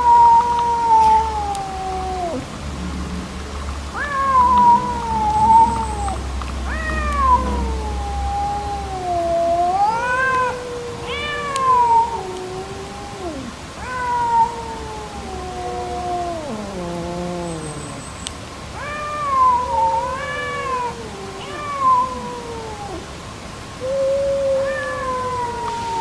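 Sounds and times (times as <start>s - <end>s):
cats yowling: 0.0s - 2.5s, 3.9s - 23.2s, 23.8s - 26.0s.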